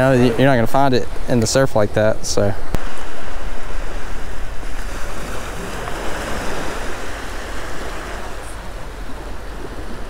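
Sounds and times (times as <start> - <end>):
ocean surf breaking on beach: 0.0 - 10.0
wind buffeting microphone: 0.0 - 10.0.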